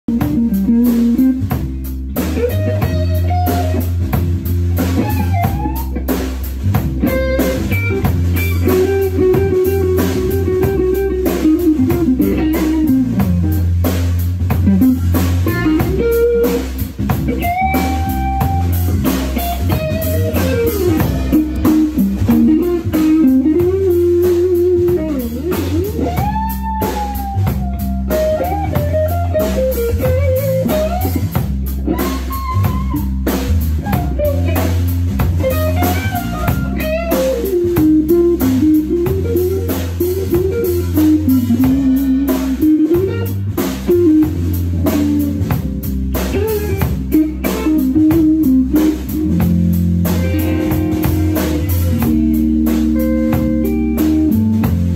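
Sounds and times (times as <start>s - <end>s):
bass guitar: 0.0s - 54.9s
drum kit: 0.0s - 54.9s
electric guitar lead: 0.1s - 54.9s.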